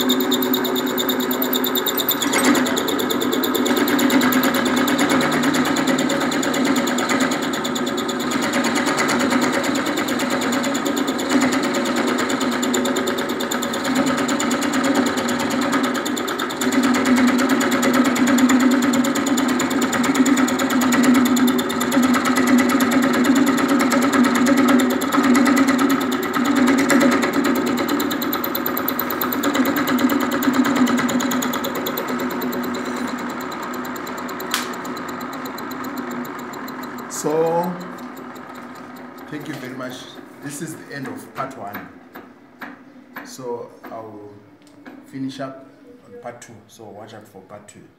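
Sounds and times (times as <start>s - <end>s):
machine tool milling metal: 0.0s - 40.6s.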